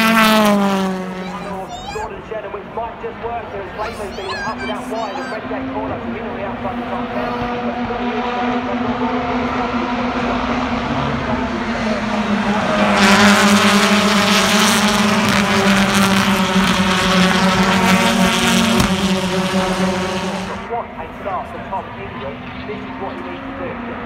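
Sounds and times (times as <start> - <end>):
racing cars passing: 0.0 - 24.0.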